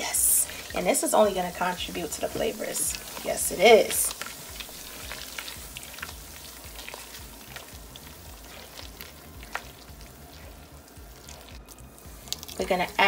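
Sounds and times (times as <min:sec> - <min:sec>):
roux sizzling in a pot: 0:00.0 - 0:13.0.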